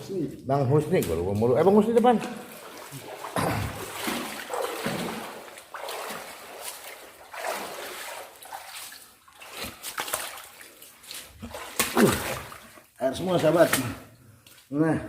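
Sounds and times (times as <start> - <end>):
footsteps wading through water: 0.0 - 14.7.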